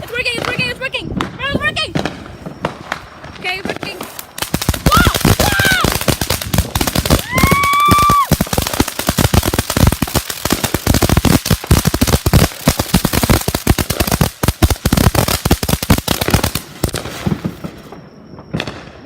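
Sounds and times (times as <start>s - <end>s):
fireworks popping and banging: 0.0s - 19.0s.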